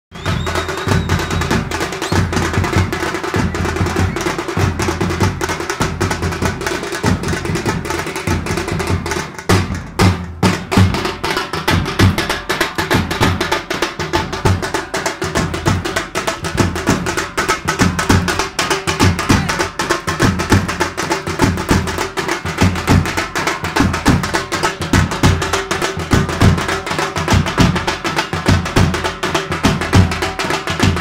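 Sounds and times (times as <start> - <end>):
large drums beaten fast: 0.1 - 31.0.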